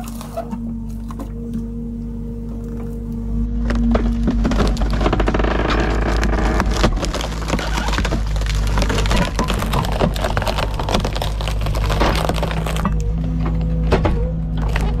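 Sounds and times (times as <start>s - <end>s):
wood cracking and splintering: 0.0s - 1.4s, 3.5s - 15.0s
engine droning: 0.0s - 15.0s.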